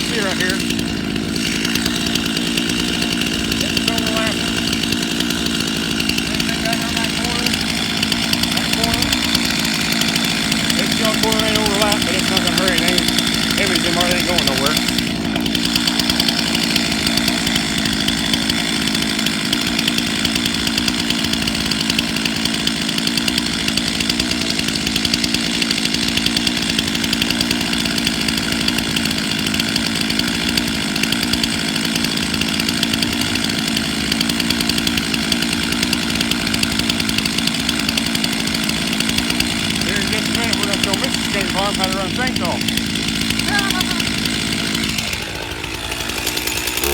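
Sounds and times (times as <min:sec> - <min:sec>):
chainsaw engine running: 0:00.0 - 0:46.9.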